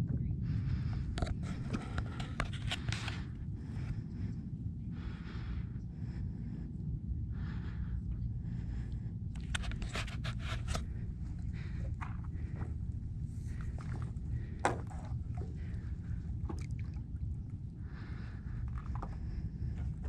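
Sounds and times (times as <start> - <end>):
rumble of water and wind: 0.0 - 20.0.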